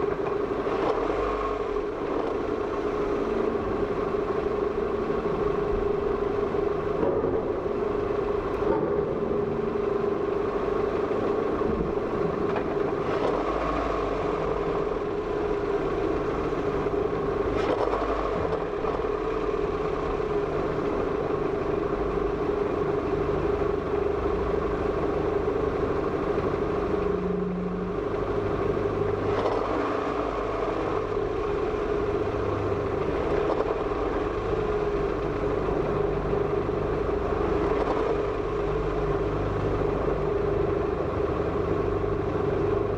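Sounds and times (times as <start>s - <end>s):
car engine running steadily: 0.0s - 42.9s.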